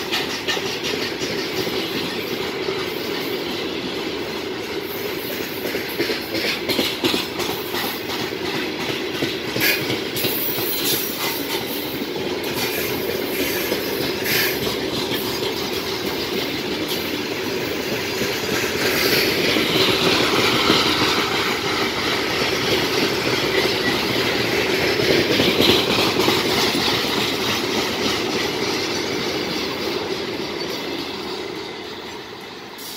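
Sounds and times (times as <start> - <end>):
train wheels clattering on rails: 0.0 - 32.9.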